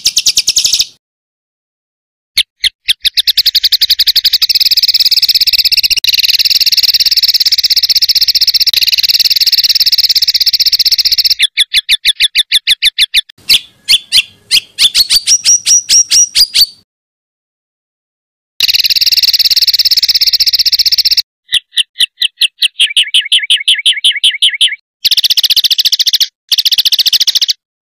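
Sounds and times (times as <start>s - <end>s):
songbird trilling: 0.0s - 1.0s, 2.4s - 16.8s, 18.6s - 27.6s.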